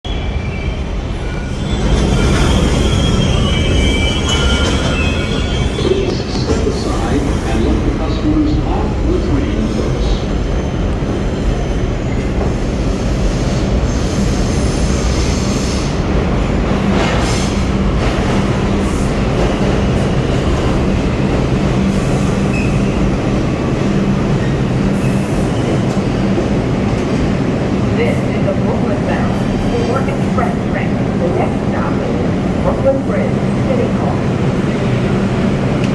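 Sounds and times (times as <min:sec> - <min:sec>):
subway train rumbling: 0:00.0 - 0:35.9.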